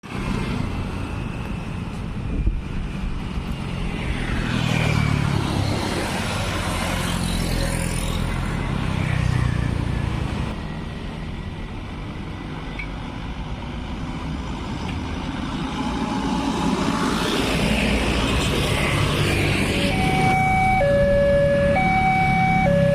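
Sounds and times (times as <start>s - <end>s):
cars and motorcycles passing: 0.0s - 22.9s.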